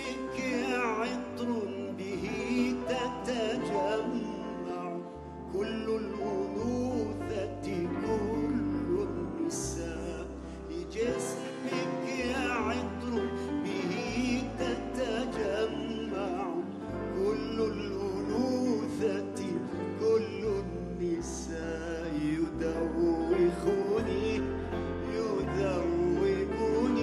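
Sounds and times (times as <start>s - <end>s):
grand piano: 0.0s - 27.0s
man singing a slow ballad: 0.0s - 27.0s.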